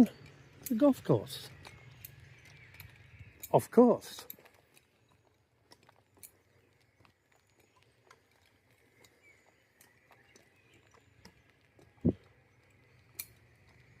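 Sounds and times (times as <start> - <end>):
light irregular clicks: 0.0 - 14.0.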